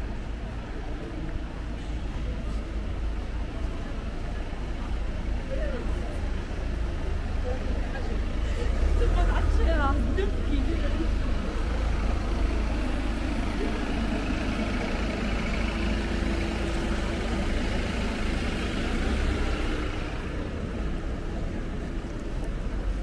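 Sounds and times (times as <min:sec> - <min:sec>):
city street noise: 0:00.0 - 0:23.0
vehicle engine rumbling: 0:00.0 - 0:23.0.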